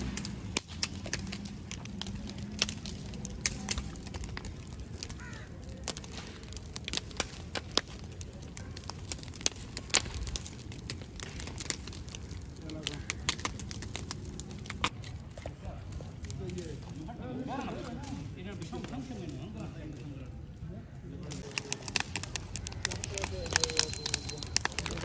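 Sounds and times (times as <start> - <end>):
low rumble of burning: 0.0 - 25.0
wood fire crackling and popping: 0.0 - 25.0.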